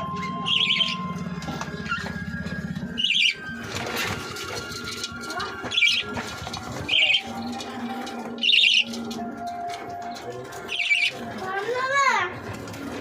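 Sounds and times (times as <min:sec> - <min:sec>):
small birds calling: 0:00.0 - 0:04.1, 0:04.8 - 0:11.4.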